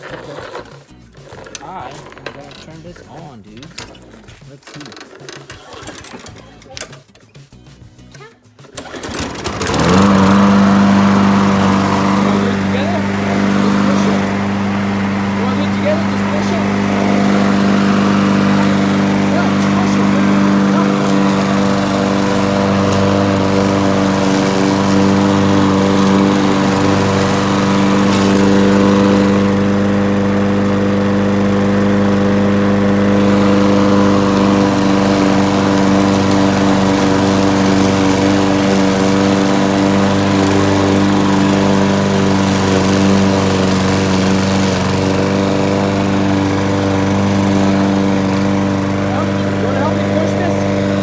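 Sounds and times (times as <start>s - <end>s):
lawn mower engine cutting grass: 0.0s - 3.6s, 8.8s - 51.0s.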